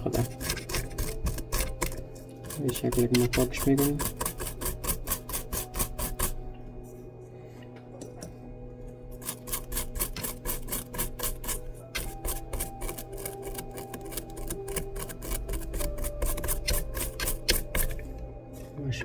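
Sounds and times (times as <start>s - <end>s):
brush scrubbing circuit board: 0.0s - 6.4s, 9.2s - 18.0s.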